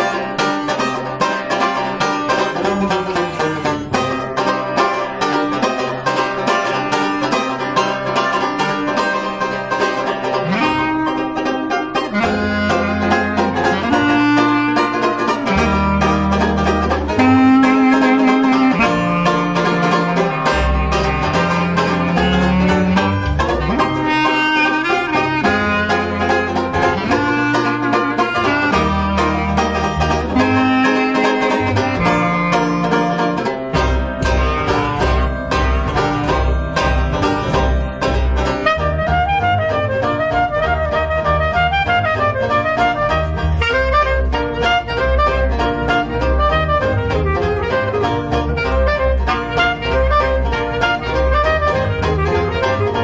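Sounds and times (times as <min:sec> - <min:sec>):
banjo strumming chords: 0:00.0 - 0:53.0
clarinet melody: 0:00.0 - 0:53.0
plucked double bass: 0:00.0 - 0:53.0.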